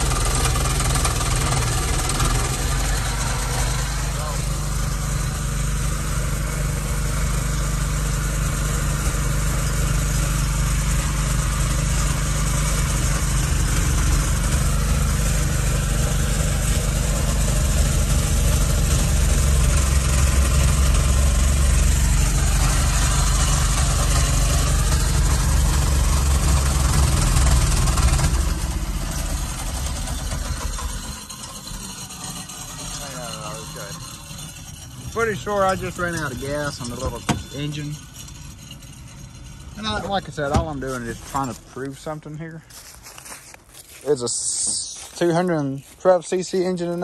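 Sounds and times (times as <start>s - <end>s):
small engine driving a generator: 0.0s - 47.0s.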